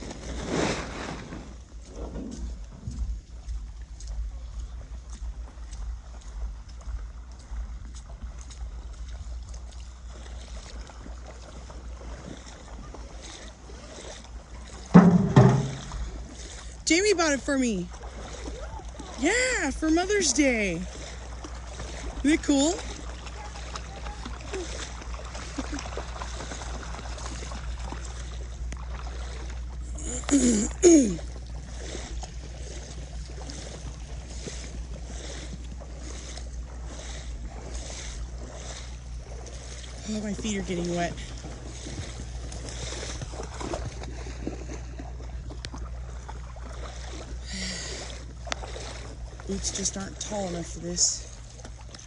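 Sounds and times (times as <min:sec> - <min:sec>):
splashing in shallow water: 0:00.0 - 0:52.0.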